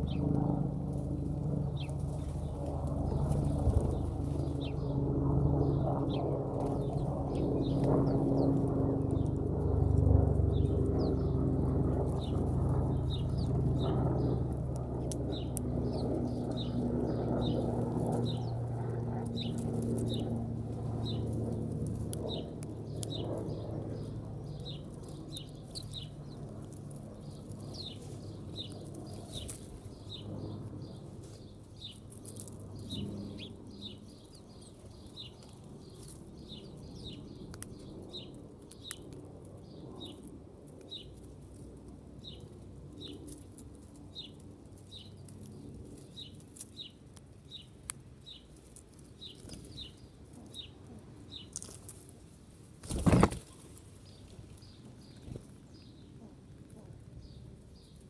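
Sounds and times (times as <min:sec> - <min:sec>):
small bird chirping: 0:00.0 - 0:00.3, 0:05.6 - 0:52.0, 0:52.8 - 0:58.0.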